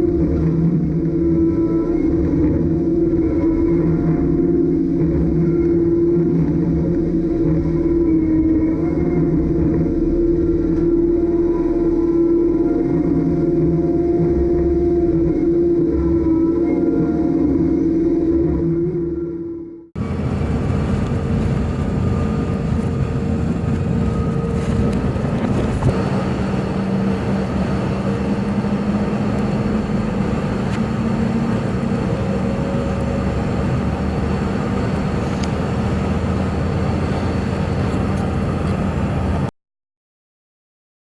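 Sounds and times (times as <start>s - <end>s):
heavy diesel engine running: 0.0s - 16.2s, 20.0s - 39.5s.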